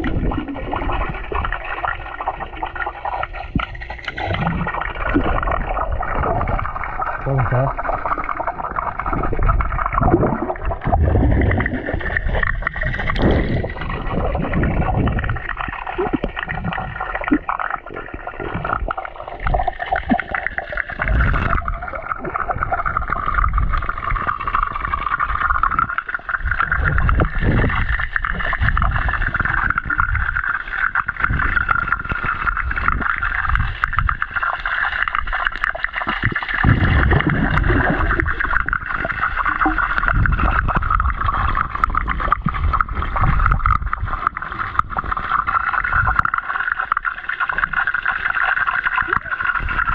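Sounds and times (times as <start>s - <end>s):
bubbles: 0.0s - 49.9s
underwater swishing and gurgling: 0.0s - 49.9s.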